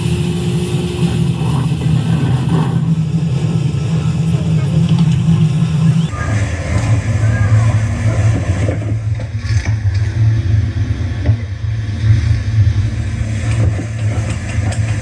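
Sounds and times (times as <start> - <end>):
jet ski engine drone: 0.0 - 15.0
wind buffeting microphone: 0.0 - 15.0.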